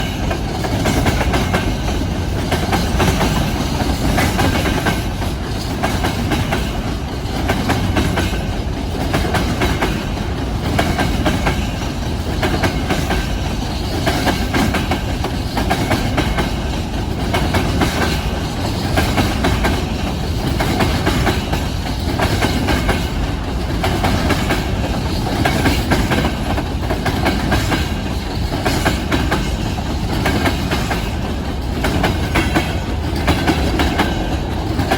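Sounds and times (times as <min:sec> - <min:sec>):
freight train rumble: 0:00.0 - 0:34.9
wheels clacking over rail joints: 0:00.0 - 0:34.9.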